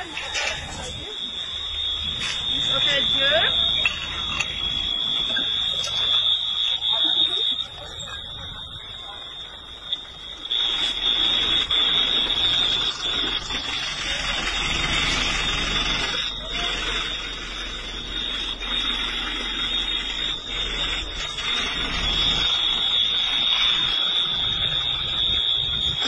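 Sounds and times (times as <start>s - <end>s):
high-pitched electronic alarm tone: 0.0s - 26.0s
loud hissing rush: 0.0s - 26.0s.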